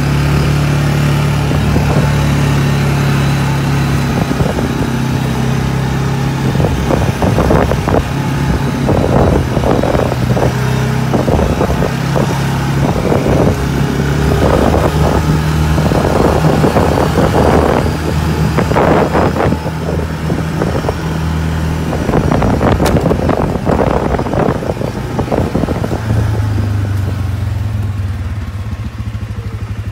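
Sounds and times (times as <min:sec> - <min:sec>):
atv engine running: 0:00.0 - 0:29.9.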